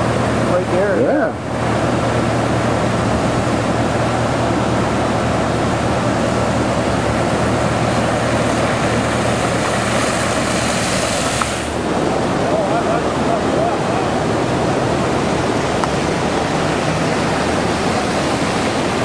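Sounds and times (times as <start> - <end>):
floodwater rushing: 0.0 - 19.0
steady low hum: 0.0 - 19.0.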